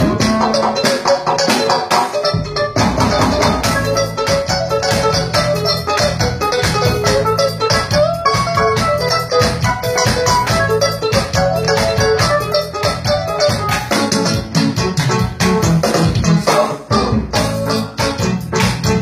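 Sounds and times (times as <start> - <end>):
bassline: 0.0 - 19.0
organ-sounding keyboard melody: 0.0 - 19.0
steady drum beat: 0.0 - 19.0.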